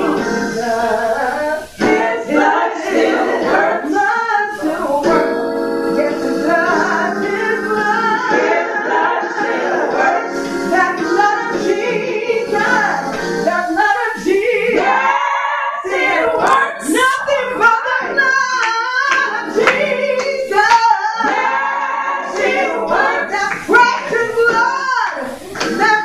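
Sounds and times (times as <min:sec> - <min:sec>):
women singing gospel: 0:00.0 - 0:26.0.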